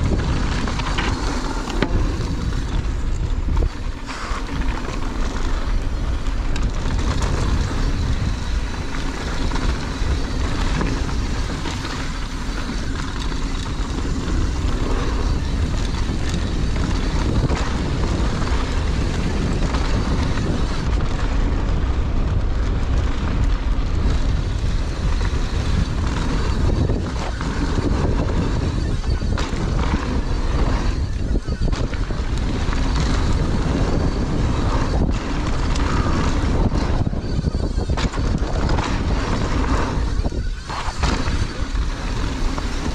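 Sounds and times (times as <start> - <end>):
bike knocks and rattles: 0.0 - 42.9
wind buffeting microphone: 0.0 - 42.9.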